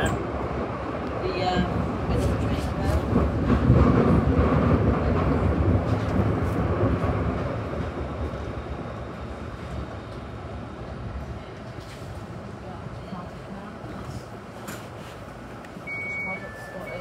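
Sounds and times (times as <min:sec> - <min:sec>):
train rail rumble: 0:00.0 - 0:17.0.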